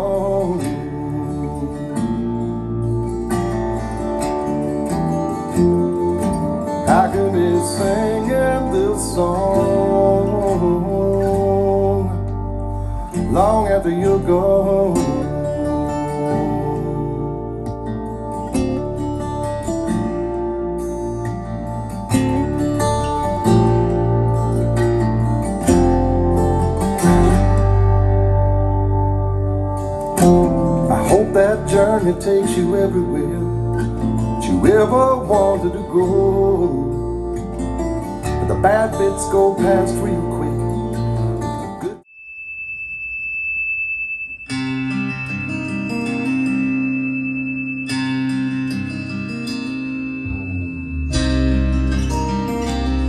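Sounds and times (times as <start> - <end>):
guitar-led music playback: 0.0 - 42.1, 44.3 - 53.0.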